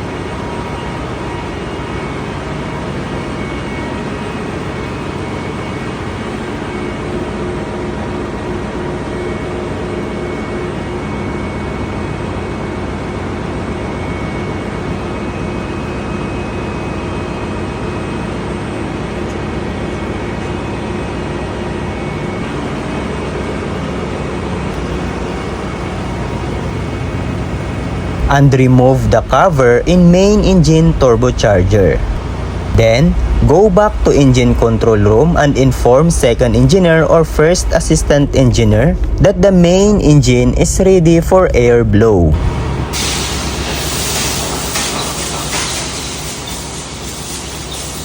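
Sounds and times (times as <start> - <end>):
diesel generators droning: 0.0 - 48.0.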